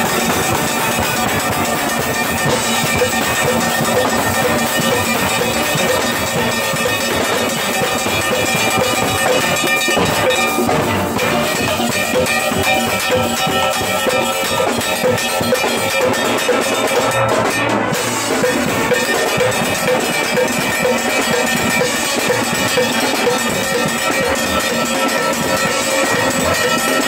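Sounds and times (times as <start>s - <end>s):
drums and percussion: 0.0s - 27.0s
steel band playing: 0.0s - 27.0s.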